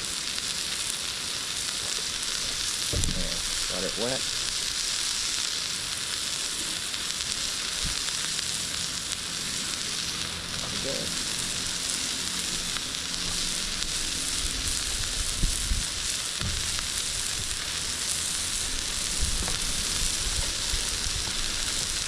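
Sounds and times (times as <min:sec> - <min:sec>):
burgers sizzling on a grill: 0:00.0 - 0:22.0.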